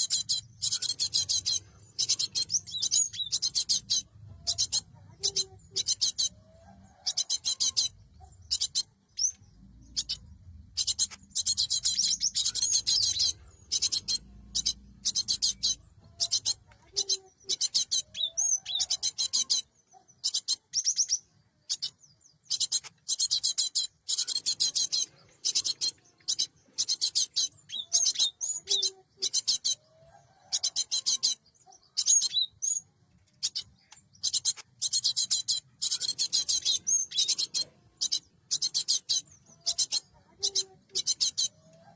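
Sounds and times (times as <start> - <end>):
bird chattering calls: 0.0 - 41.9.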